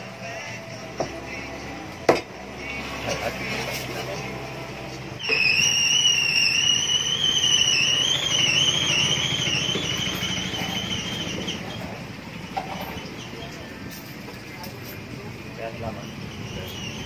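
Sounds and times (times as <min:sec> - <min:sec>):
high wavering whine: 0:00.0 - 0:17.0.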